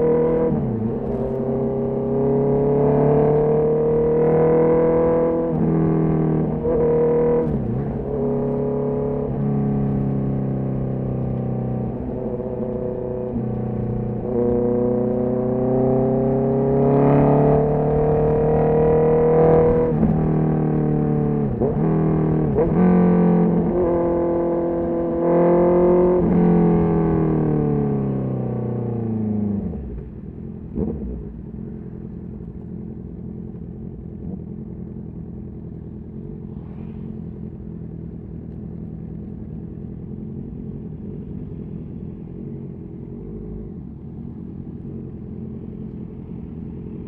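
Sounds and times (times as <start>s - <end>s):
motorcycle engine revving: 0.0s - 38.5s.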